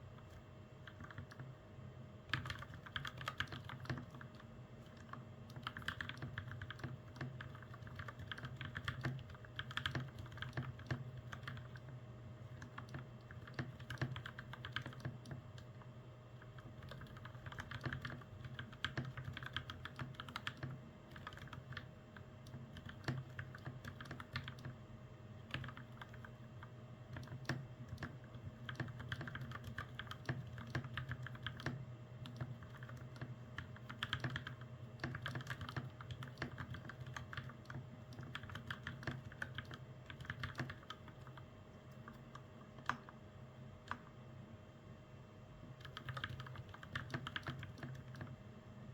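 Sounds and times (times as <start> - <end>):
mechanical keyboard typing: 0.3 - 1.4, 2.3 - 15.8, 16.4 - 24.8, 25.5 - 43.1, 45.8 - 48.4.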